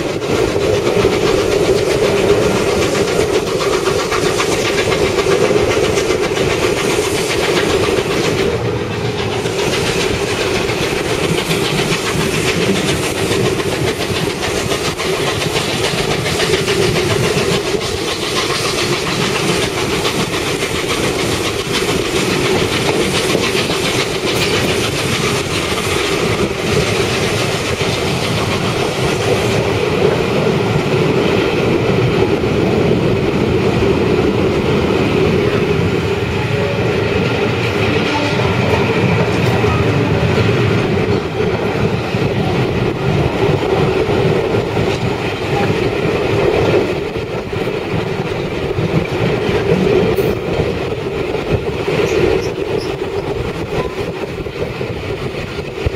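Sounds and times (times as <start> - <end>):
train wheels on track: 0.0 - 55.9.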